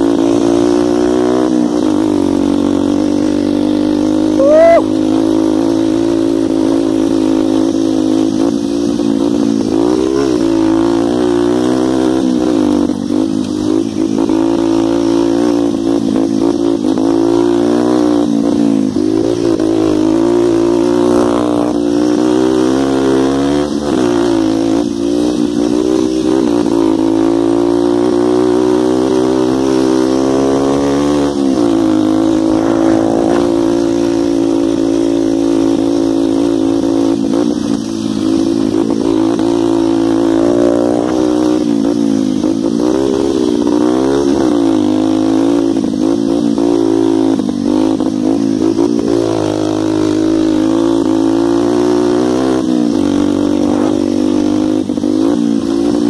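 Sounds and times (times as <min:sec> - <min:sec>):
dirt bike engine running hard: 0:00.0 - 0:56.0.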